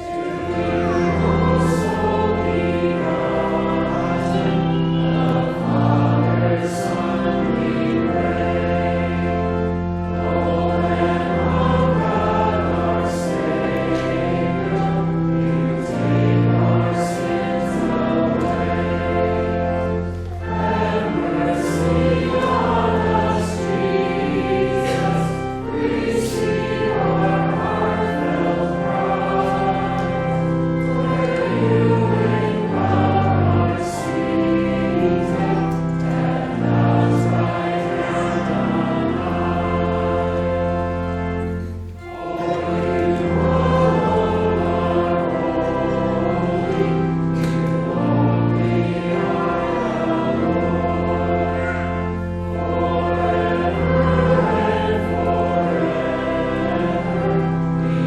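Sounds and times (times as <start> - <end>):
group singing a hymn: 0.0 - 58.0
sustained low accompaniment notes: 0.0 - 58.0.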